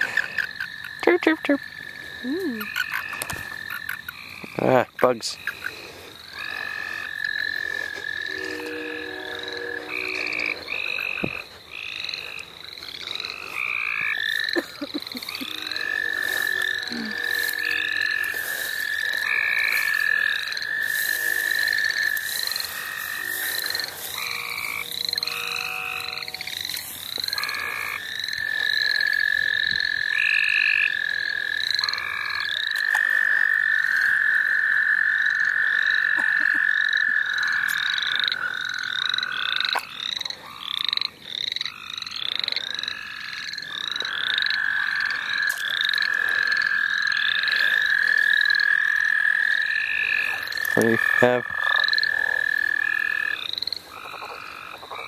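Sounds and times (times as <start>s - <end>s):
frogs trilling: 0.0s - 55.0s
short frog calls: 0.0s - 55.0s.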